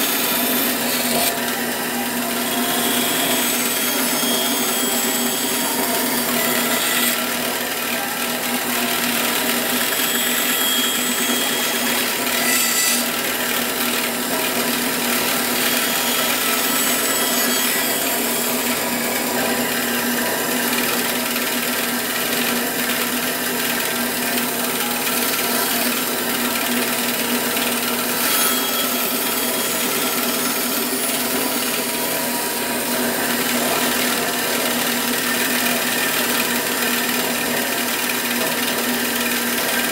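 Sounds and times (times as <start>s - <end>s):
bandsaw cutting: 0.0s - 39.9s.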